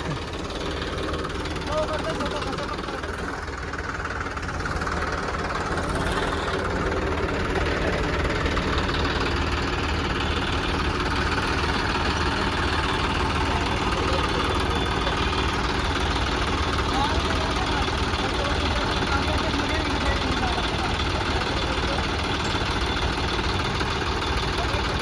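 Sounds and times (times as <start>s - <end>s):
diesel tractor engine running: 0.0s - 25.0s.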